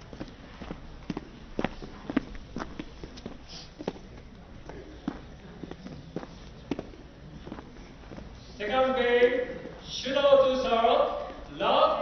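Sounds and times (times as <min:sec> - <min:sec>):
low hall hum: 0:00.0 - 0:12.0.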